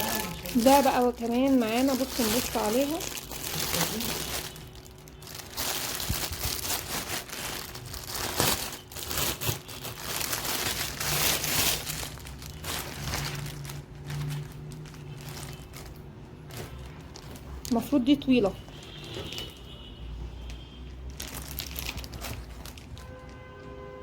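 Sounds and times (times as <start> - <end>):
packaging crinkling and rustling: 0.0 - 19.8, 20.4 - 23.8.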